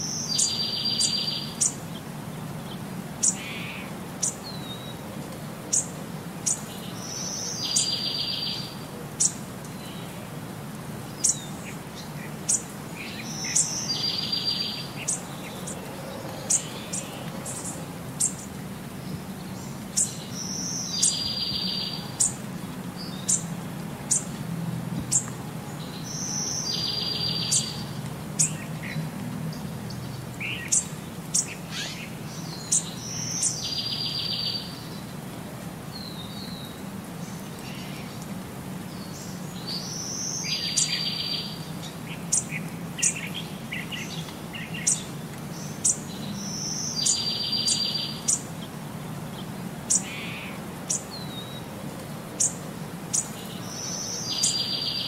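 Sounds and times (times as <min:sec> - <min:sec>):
birds chirping: 0:00.0 - 0:05.0, 0:05.7 - 0:10.2, 0:11.0 - 0:24.4, 0:25.0 - 0:35.2, 0:35.9 - 0:55.0.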